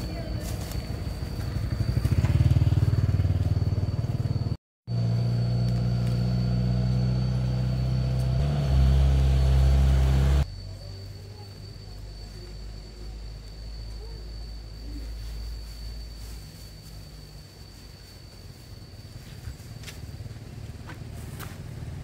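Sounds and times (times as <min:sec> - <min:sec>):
vehicle engine running: 0:00.0 - 0:13.6, 0:14.4 - 0:22.0.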